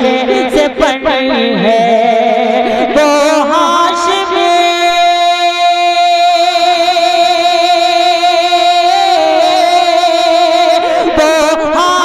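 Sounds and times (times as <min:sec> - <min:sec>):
person singing a long wavering note: 0:00.0 - 0:12.0.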